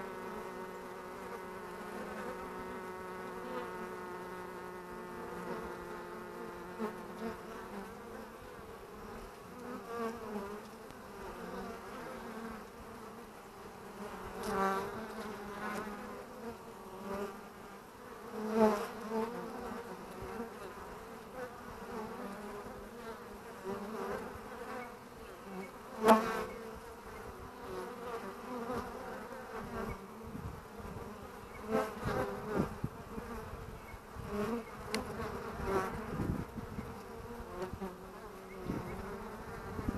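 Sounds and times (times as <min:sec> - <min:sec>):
bee buzzing close past: 0:00.0 - 0:39.9
honeybees humming: 0:00.0 - 0:39.9.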